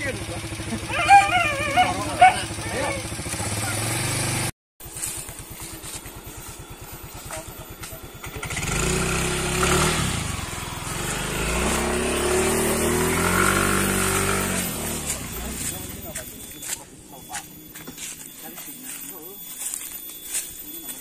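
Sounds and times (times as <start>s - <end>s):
quad bike engine idling and revving: 0.0s - 21.0s.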